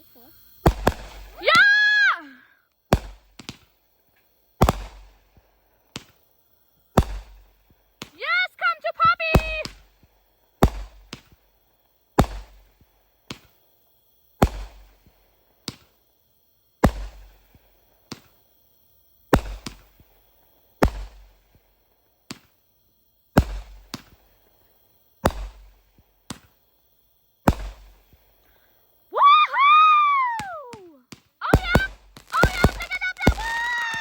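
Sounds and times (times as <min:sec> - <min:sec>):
firework bangs: 0:00.0 - 0:34.0
smaller firework pops: 0:00.2 - 0:02.1, 0:02.7 - 0:08.2, 0:08.9 - 0:29.0, 0:29.7 - 0:34.0.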